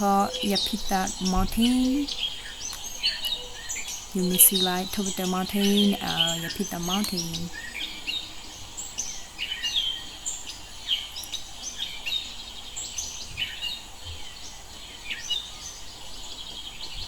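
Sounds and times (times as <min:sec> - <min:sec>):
birds chirping and whistling: 0:00.0 - 0:15.9
faint steady hiss: 0:00.0 - 0:17.0.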